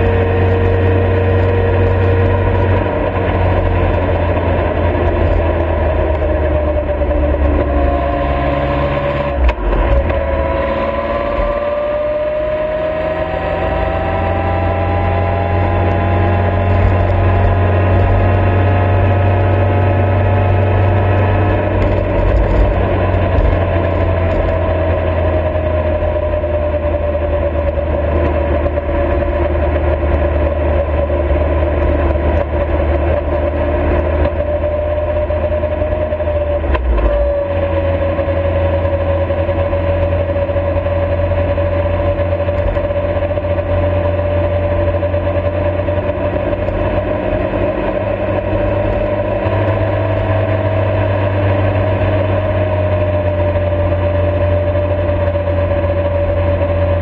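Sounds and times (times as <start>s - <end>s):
motorcycle engine cruising: 0.0s - 57.0s
wind and road rumble: 0.0s - 57.0s.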